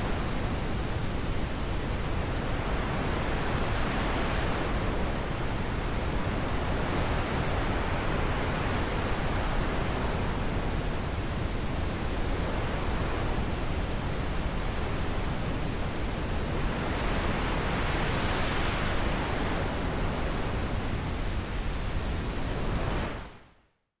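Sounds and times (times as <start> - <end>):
rushing wind: 0.0 - 23.4.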